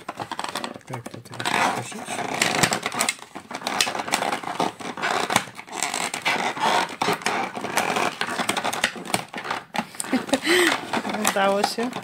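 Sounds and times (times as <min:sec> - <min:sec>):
fingernails scratching cardboard: 0:01.4 - 0:12.0.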